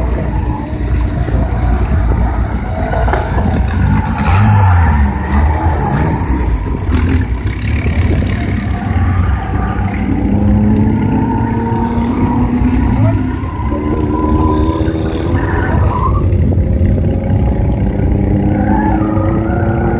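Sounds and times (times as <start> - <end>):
rally car engine revving: 0.0 - 19.9.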